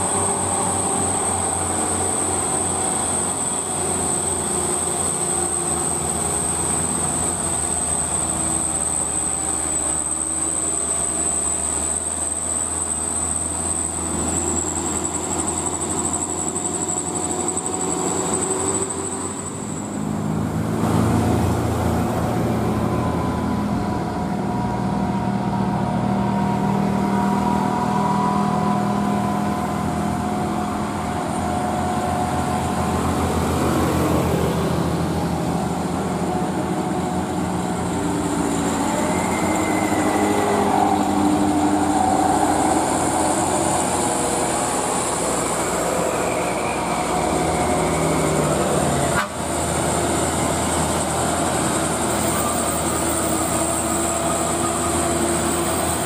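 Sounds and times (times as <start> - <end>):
diesel trucks pulling hard uphill: 0.0 - 56.0.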